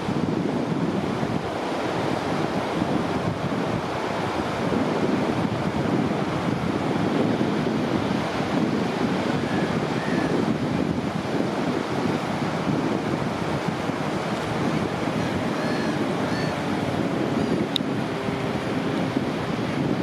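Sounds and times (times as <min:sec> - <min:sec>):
ocean surf rushing: 0:00.0 - 0:20.0
wind buffeting microphone: 0:00.0 - 0:20.0.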